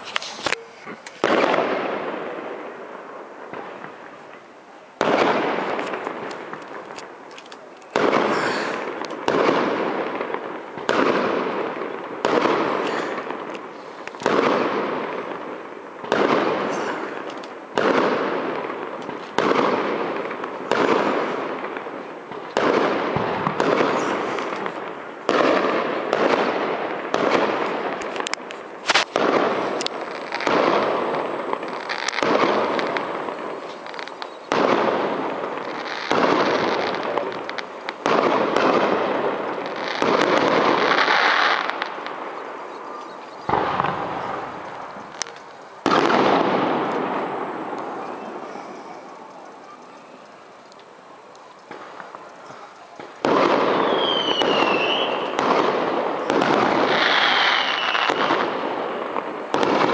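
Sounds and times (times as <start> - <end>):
firework shells bursting: 0.0 - 4.0, 5.0 - 42.6, 43.4 - 59.9.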